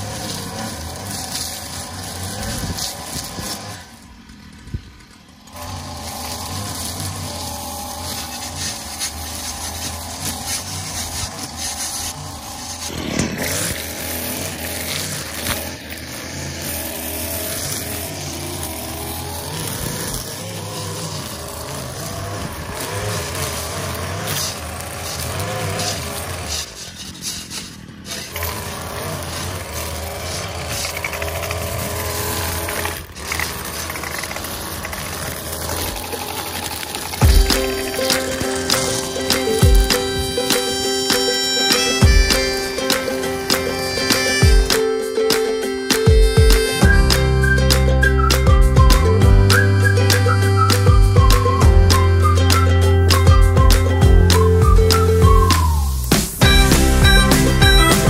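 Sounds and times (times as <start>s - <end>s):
string trimmer cutting grass: 0.0s - 58.0s.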